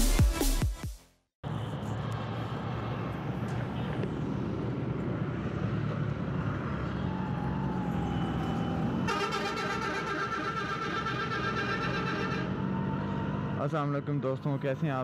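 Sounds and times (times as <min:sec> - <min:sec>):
wind and road noise: 0:01.4 - 0:15.0.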